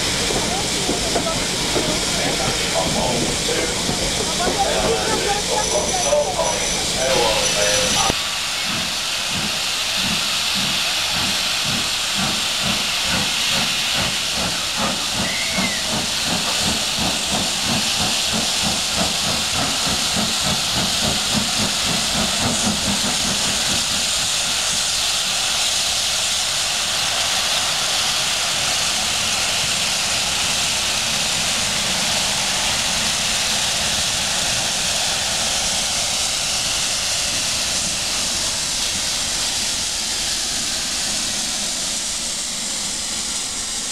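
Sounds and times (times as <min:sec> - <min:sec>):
steam hissing: 0:00.0 - 0:43.9
steam locomotive chuffing: 0:00.0 - 0:43.9
train coaches rolling past: 0:00.0 - 0:43.9.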